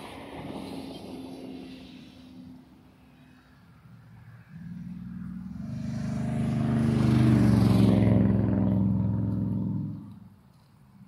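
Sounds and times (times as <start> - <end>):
vehicle driving past: 0.0 - 10.3.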